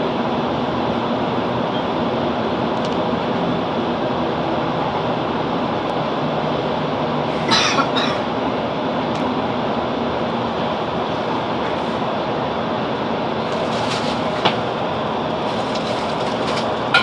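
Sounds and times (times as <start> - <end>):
train running noise from inside: 0.0 - 17.0.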